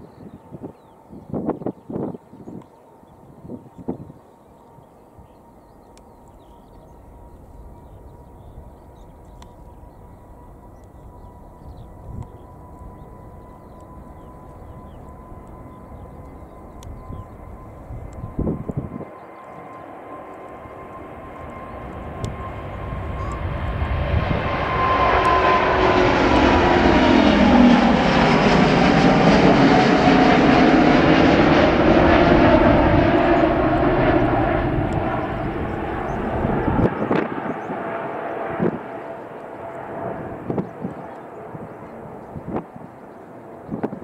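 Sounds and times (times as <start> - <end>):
jet airliner taking off: 3.2 - 44.0.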